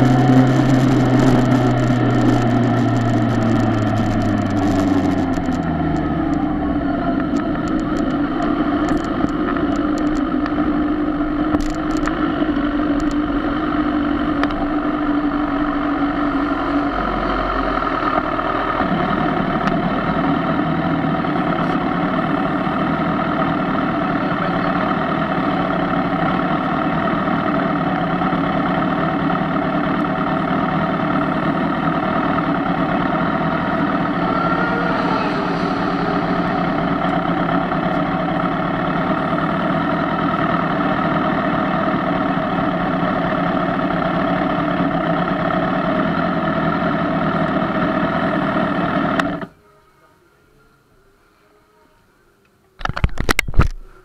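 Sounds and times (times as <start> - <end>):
motorcycle engine: 0.0 - 49.5.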